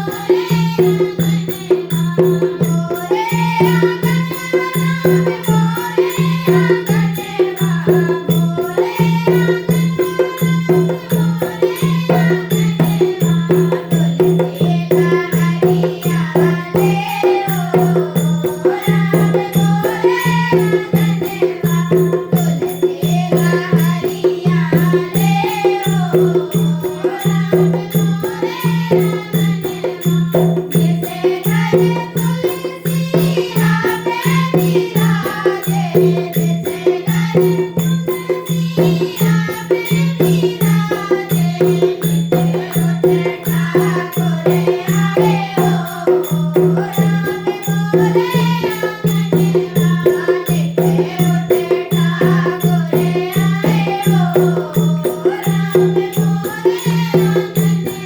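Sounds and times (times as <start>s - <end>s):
hand percussion beat: 0.0s - 58.0s.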